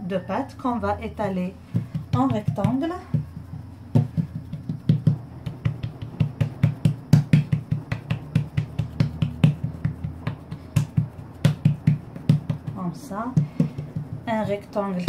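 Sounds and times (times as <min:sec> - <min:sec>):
hands patting dough on stone: 0:01.0 - 0:15.0.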